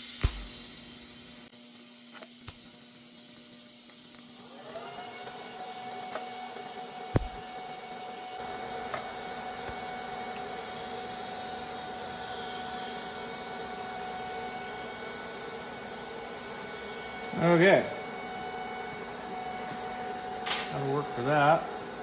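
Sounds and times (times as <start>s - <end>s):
welding arc buzzing: 0.0s - 22.0s.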